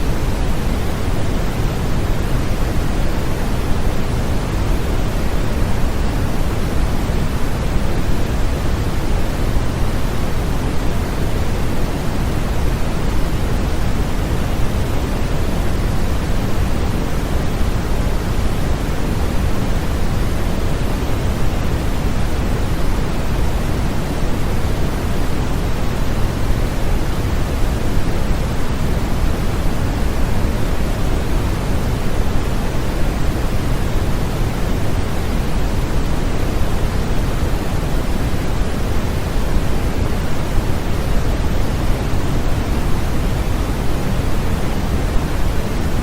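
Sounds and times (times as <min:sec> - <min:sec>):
white noise hiss: 0:00.0 - 0:46.0.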